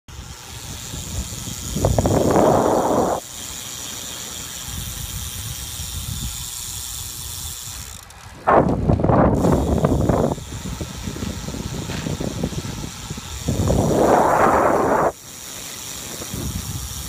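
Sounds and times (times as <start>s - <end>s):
wind rumbling on microphone: 0.1s - 3.3s, 4.6s - 15.2s, 16.0s - 17.0s
bicycle tyres hissing on pavement: 0.1s - 17.0s.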